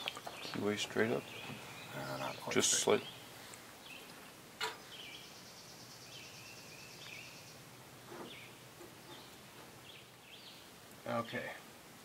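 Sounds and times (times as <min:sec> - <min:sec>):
small birds chirping: 0:00.0 - 0:11.7
low steady hiss: 0:00.0 - 0:12.0.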